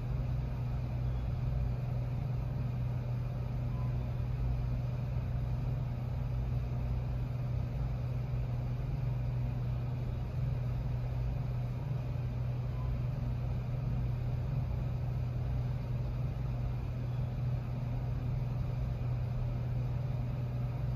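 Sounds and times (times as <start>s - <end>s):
low mechanical hum: 0.0s - 20.9s.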